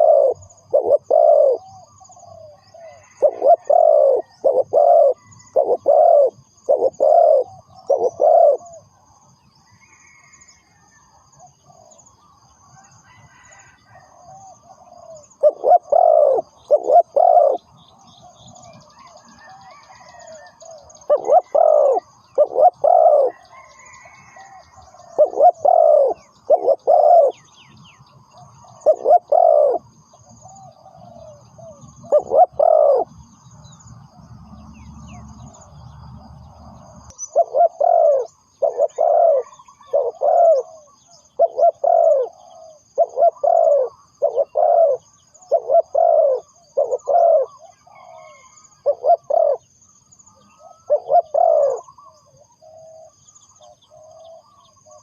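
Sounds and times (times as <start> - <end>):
dove cooing: 0.0 - 8.9, 11.4 - 12.1, 13.1 - 27.5, 28.3 - 33.2, 36.8 - 49.7, 50.3 - 55.0.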